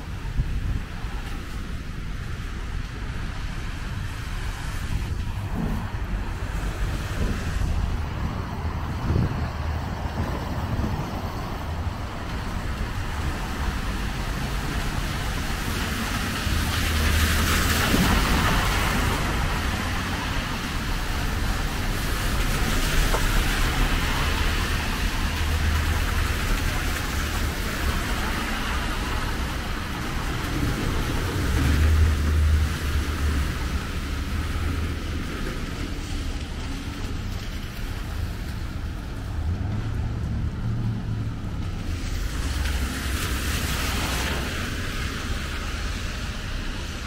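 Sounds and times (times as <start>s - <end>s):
car tyres hissing on wet asphalt: 0.0s - 47.0s
low traffic rumble: 0.0s - 47.0s.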